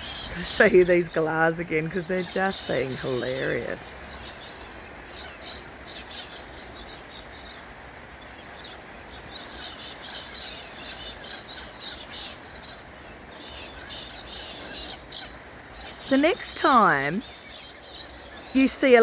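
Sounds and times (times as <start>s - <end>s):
cockatoos calling with harsh chirps: 0.0s - 1.2s, 2.1s - 19.0s.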